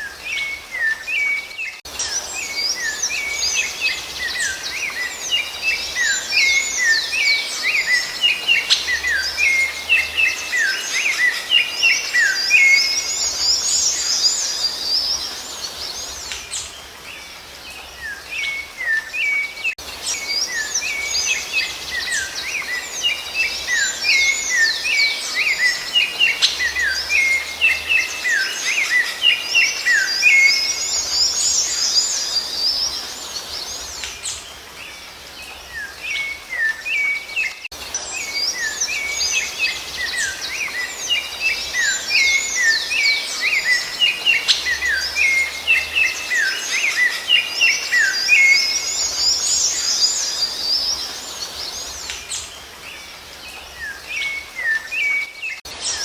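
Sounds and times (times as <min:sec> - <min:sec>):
thrush singing whistled notes: 0:00.0 - 0:56.0.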